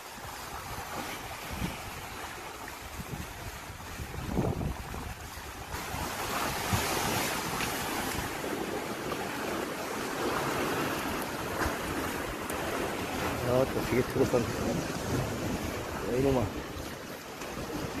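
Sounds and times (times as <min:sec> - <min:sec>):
sea waves: 0:00.0 - 0:18.0
wind buffeting microphone: 0:00.2 - 0:18.0.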